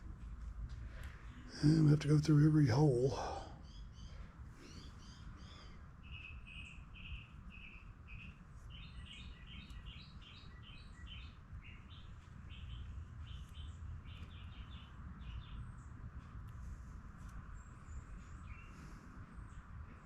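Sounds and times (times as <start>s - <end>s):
faint low rumble: 0.0s - 20.0s
bird chirping: 1.2s - 16.4s, 17.2s - 20.0s.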